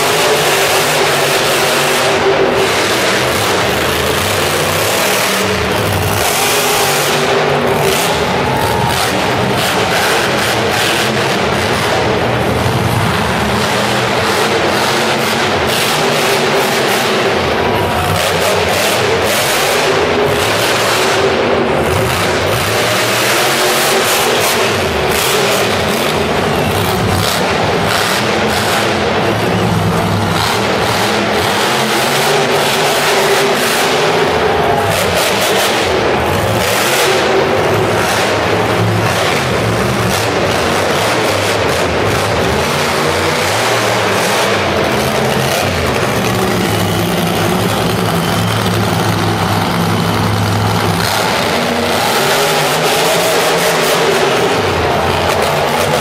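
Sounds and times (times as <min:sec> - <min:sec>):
truck engine revving hard: 0:00.0 - 0:56.0.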